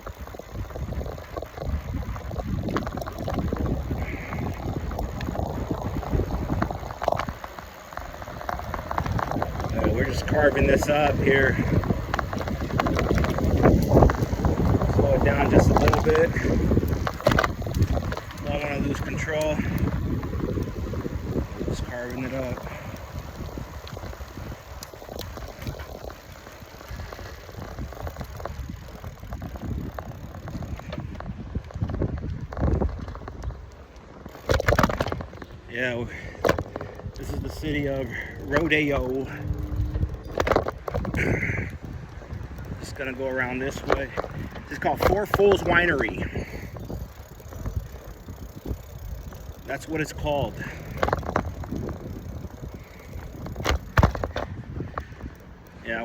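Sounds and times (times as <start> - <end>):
bicycle tyres rolling: 0.0 - 56.0
bike clicks and ticks: 0.0 - 56.0
wind buffeting microphone: 0.0 - 56.0.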